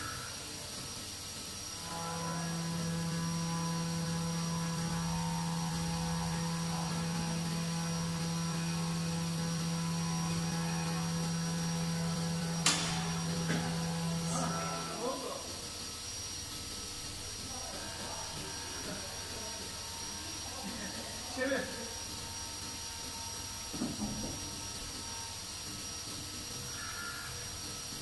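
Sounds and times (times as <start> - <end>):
machine electric hum: 0.0 - 28.0.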